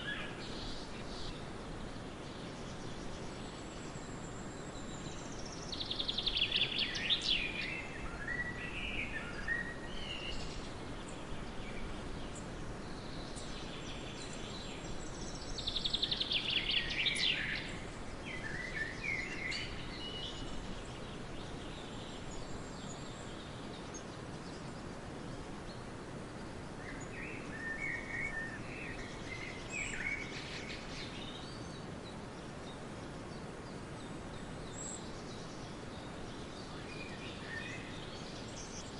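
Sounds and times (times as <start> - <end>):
background hiss: 0.0 - 38.9
songbirds singing: 0.0 - 38.9.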